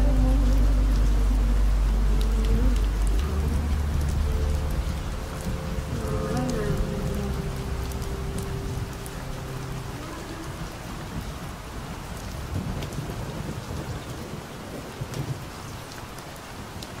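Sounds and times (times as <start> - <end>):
thunder rumbling: 0.0 - 15.9
rain on a hard surface: 0.0 - 17.0.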